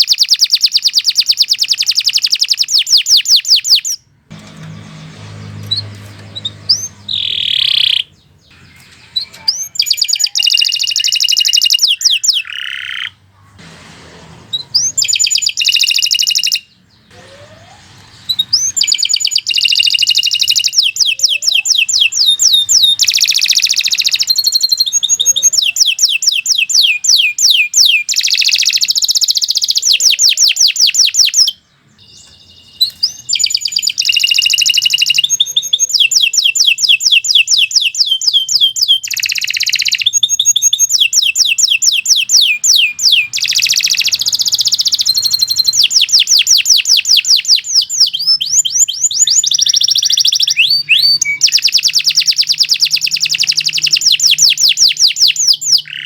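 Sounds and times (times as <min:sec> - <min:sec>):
canary singing trills: 0:00.0 - 0:13.5, 0:14.5 - 0:56.0.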